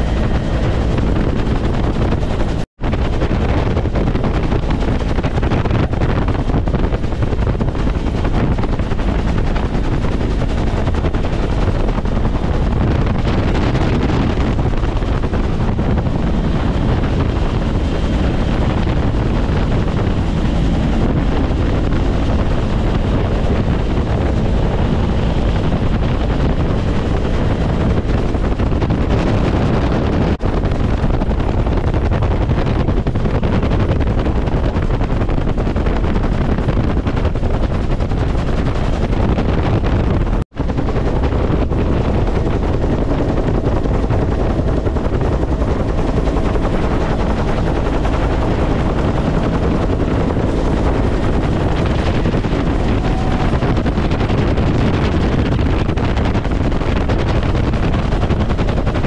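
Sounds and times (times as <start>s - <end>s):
helicopter engine noise: 0.0s - 59.0s
helicopter rotor blade slap: 0.0s - 59.0s.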